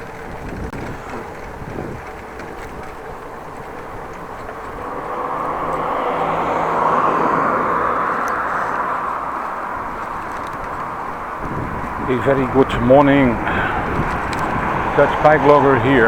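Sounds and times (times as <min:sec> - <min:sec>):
motor vehicle passing: 0:00.0 - 0:16.0.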